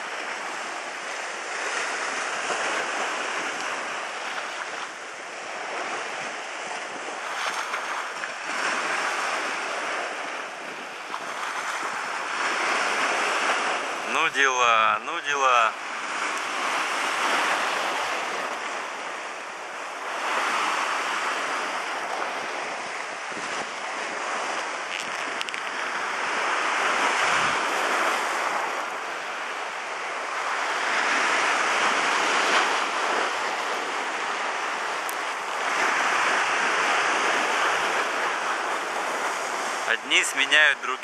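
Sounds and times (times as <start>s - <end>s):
sea surf washing in: 0.0s - 41.0s.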